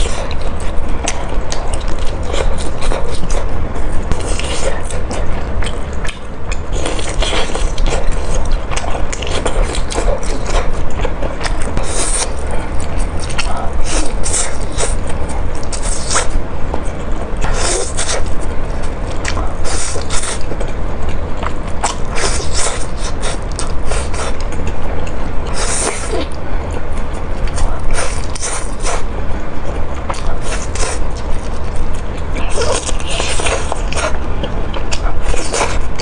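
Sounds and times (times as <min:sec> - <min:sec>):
steady low hum: 0:00.0 - 0:36.0
wet chewing and mouth smacks: 0:00.0 - 0:36.0.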